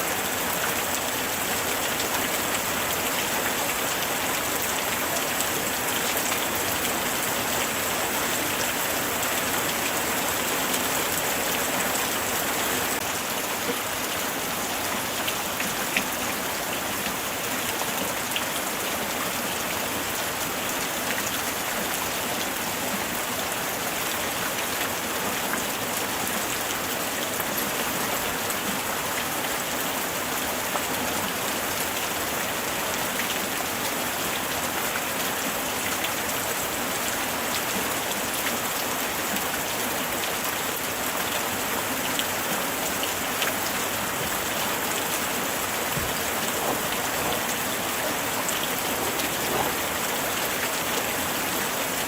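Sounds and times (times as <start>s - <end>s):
light rain pattering: 0.0s - 52.0s.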